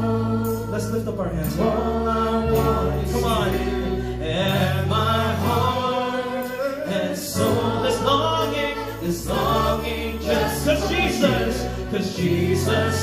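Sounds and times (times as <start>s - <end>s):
bass and keyboard chords: 0.0s - 13.0s
voices singing together: 0.0s - 13.0s.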